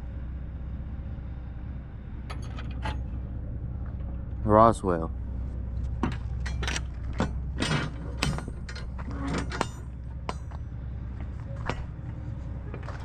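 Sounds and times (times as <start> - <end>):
truck engine low hum: 0.0 - 13.0
rattles in truck cab: 2.2 - 13.0.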